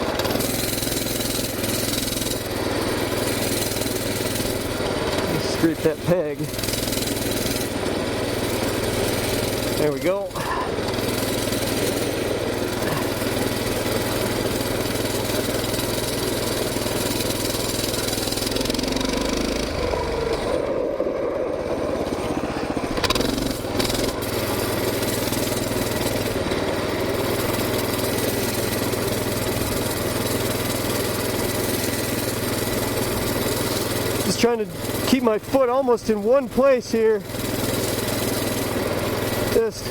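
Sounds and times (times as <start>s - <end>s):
mini bike engine running: 0.0s - 39.9s.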